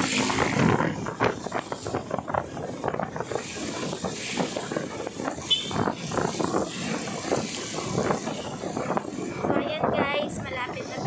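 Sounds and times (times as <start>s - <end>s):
motorcycle road noise: 0.0s - 11.0s
wind buffeting: 0.0s - 11.0s.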